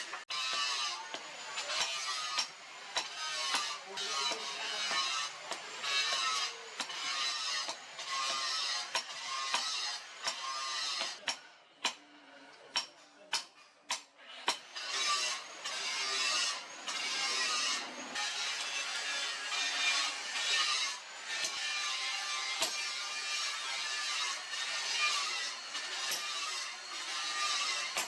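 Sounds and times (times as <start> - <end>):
hand tool scraping steel blade: 0.0 - 12.0, 12.7 - 28.0.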